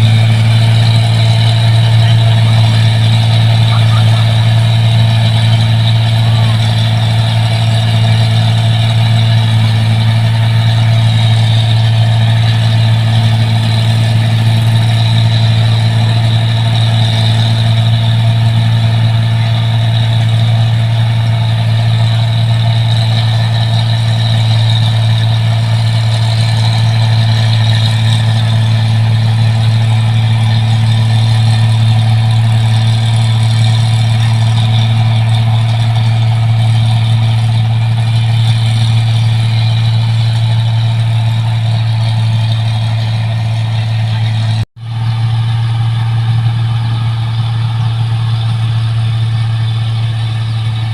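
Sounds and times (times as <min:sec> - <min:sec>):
combine harvester running: 0:00.0 - 0:50.9.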